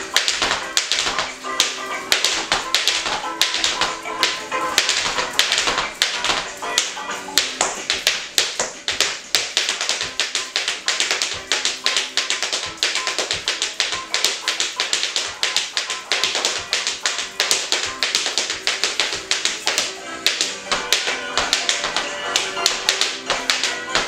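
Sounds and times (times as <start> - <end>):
ragtime music: 0.0 - 24.0
tap shoes striking floor: 0.0 - 24.0.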